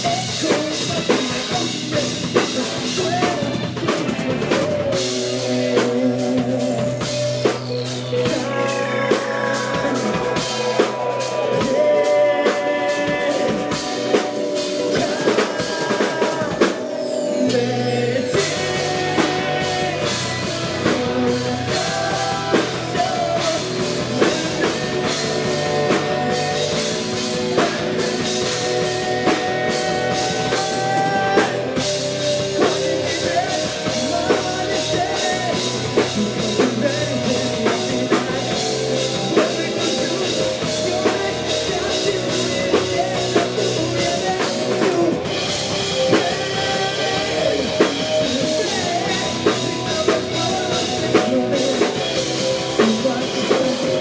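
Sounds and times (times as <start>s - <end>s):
person singing: 0.0s - 54.0s
rock band playing: 0.0s - 54.0s.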